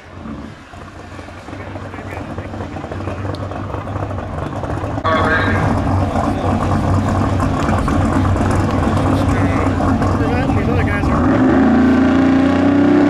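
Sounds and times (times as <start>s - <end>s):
hot rod engine idling lumpily: 0.0s - 11.3s.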